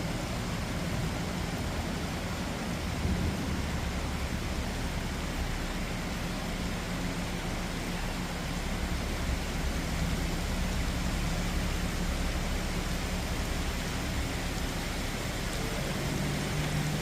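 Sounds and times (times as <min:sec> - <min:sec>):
low engine rumble: 0:00.0 - 0:17.0
steady rain falling: 0:00.0 - 0:17.0.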